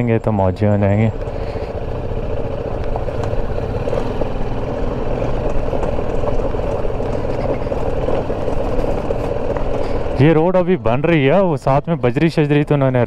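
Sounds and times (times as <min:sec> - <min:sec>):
motorcycle engine running: 0:00.0 - 0:13.0
tyres over gravel: 0:00.0 - 0:13.0.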